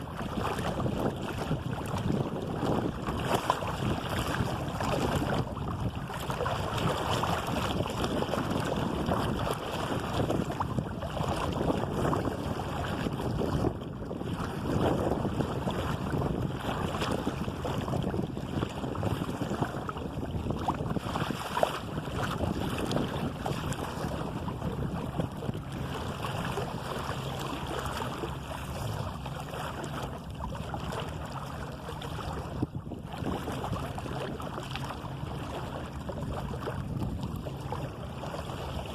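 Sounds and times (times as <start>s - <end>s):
water splashing along hull: 0.0s - 38.9s
wind buffeting microphone: 0.0s - 38.9s.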